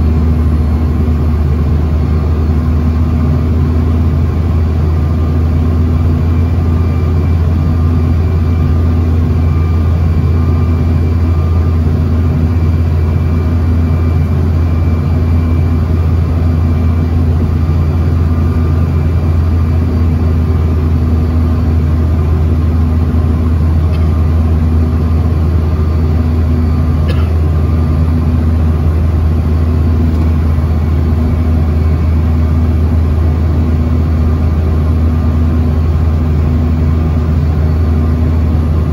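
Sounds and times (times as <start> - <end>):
jet airliner cabin drone: 0.0 - 38.9.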